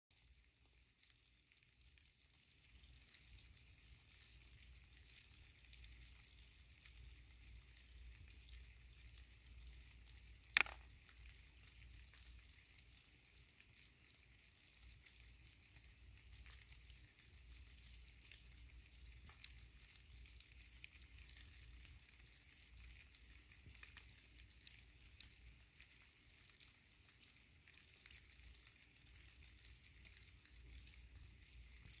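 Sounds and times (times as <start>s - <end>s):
silkworms chewing leaves: 0.1s - 32.0s.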